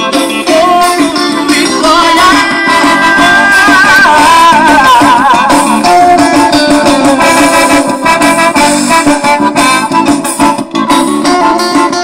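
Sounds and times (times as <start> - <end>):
loud music from car speakers: 0.0 - 12.0.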